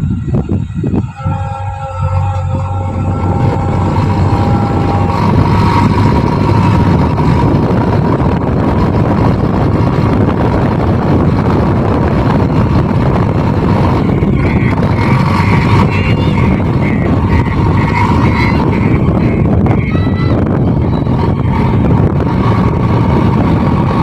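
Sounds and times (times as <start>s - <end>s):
diesel engine rumbling under load: 0.0s - 24.0s.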